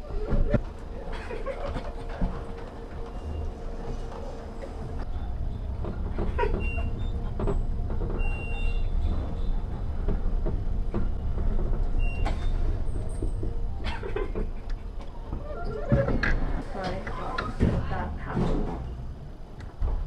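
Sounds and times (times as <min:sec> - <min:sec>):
elevator car rumbling: 0:00.0 - 0:20.0.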